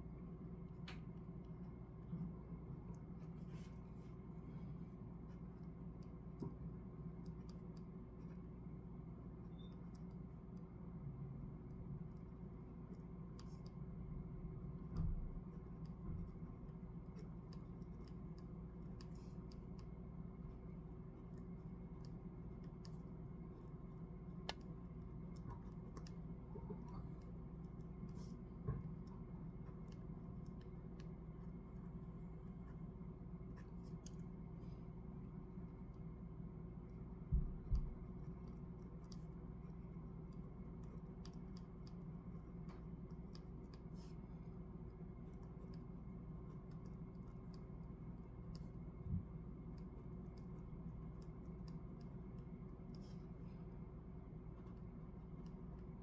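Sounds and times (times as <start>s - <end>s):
low room hum: 0.0s - 56.0s.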